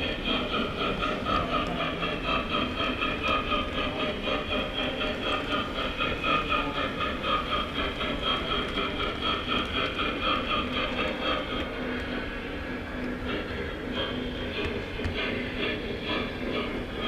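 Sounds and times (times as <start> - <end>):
model train wheels rumbling on rail: 0.0 - 17.0.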